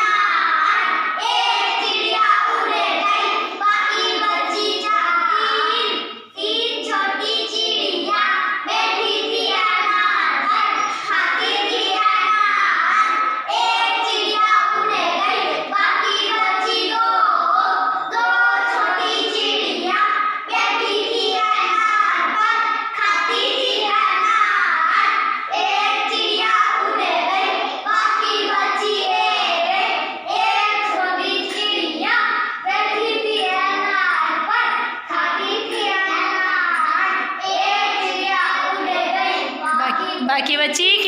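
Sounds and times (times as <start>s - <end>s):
young children singing: 0.0s - 41.0s.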